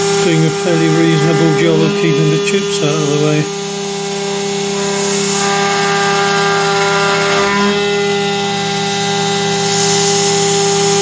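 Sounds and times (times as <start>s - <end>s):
milling spindle whining: 0.0s - 11.0s
air jet hissing: 0.3s - 7.8s, 9.6s - 11.0s.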